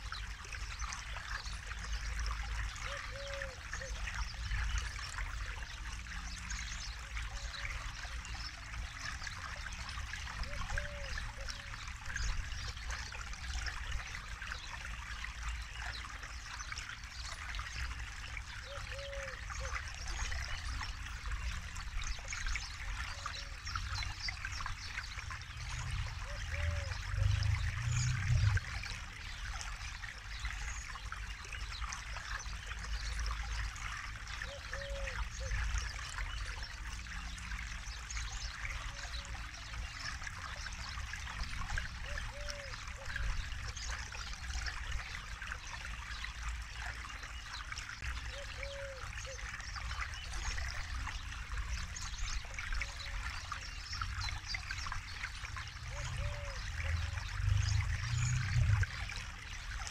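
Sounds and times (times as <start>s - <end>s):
river water rushing and trickling: 0.0s - 59.9s.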